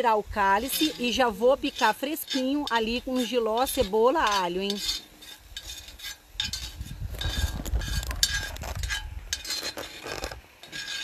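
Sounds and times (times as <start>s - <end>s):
metal spoon scraping a pot: 0.4s - 11.0s
metal clinking on pan: 0.6s - 10.0s.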